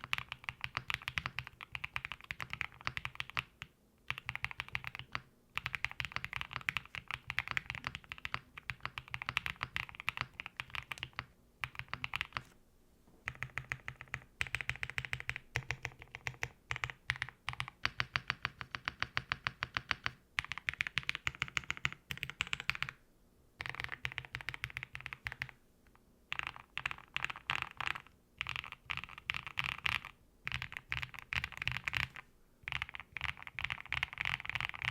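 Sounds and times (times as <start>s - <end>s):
mechanical keyboard typing: 0.0s - 12.5s, 13.3s - 23.0s, 23.6s - 25.6s, 26.3s - 34.9s.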